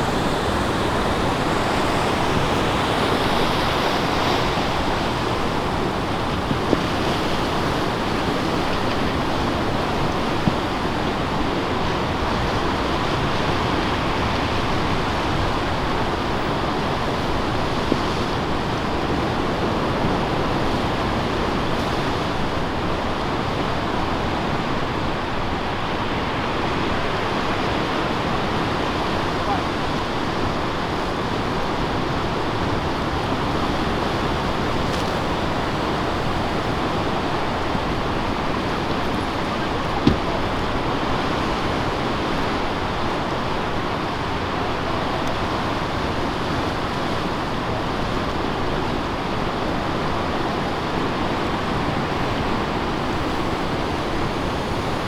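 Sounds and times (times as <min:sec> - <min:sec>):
surf rushing: 0:00.0 - 0:22.6, 0:26.0 - 0:55.0
wind buffeting microphone: 0:00.0 - 0:24.4, 0:30.6 - 0:55.0.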